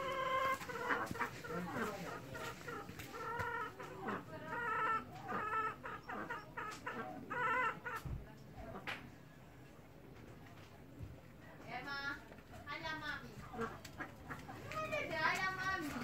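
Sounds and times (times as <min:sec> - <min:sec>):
chickens clucking: 0:00.0 - 0:09.7, 0:12.4 - 0:16.0.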